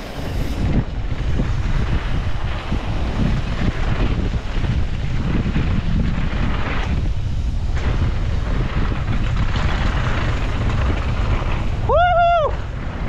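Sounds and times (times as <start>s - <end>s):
bike tyres rumbling on dirt: 0.0s - 13.0s
wind buffeting microphone: 0.0s - 13.0s.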